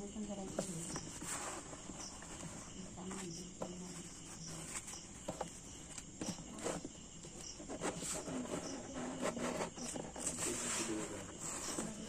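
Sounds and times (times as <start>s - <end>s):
crickets trilling: 0.0s - 12.0s
cardboard scraping on concrete: 0.4s - 12.0s.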